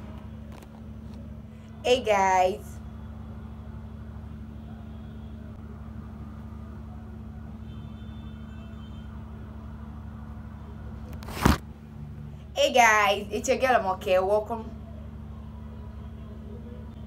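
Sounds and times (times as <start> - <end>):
steady low hum: 0.0 - 8.2, 9.0 - 17.0.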